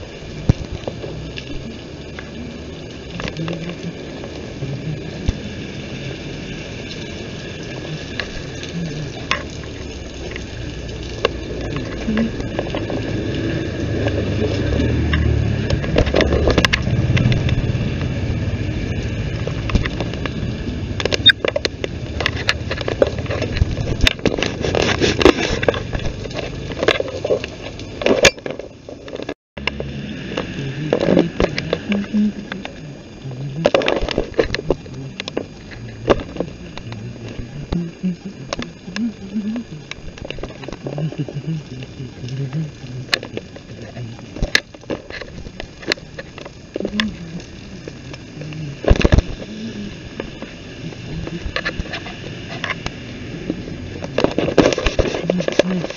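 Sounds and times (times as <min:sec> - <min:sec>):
steady hiss: 0:00.0 - 0:26.7, 0:28.7 - 0:55.9
low rumble: 0:00.0 - 0:55.9.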